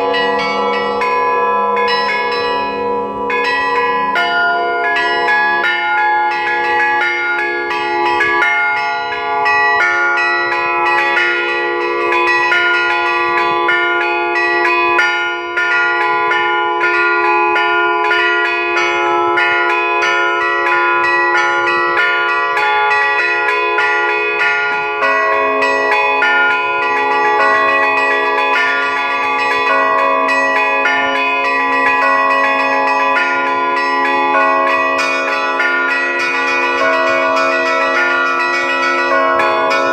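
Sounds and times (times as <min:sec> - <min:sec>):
large bells ringing: 0:00.0 - 0:39.9
low bell tolling: 0:00.0 - 0:39.9
small bells ringing rapidly: 0:00.0 - 0:39.9.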